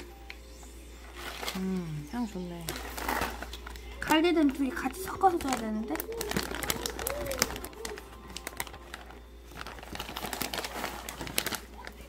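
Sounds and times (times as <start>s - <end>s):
paper bag crinkling: 1.0s - 12.0s.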